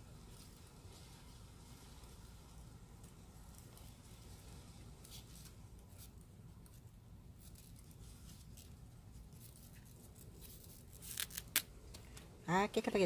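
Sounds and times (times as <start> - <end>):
gloved hands rustling: 0.0 - 12.4.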